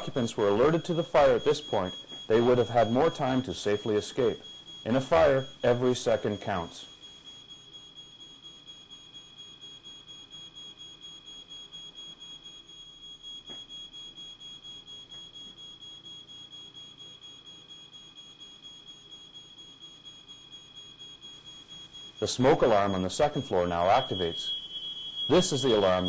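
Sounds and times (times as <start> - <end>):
smoke alarm high-pitched tone: 0.0 - 26.0.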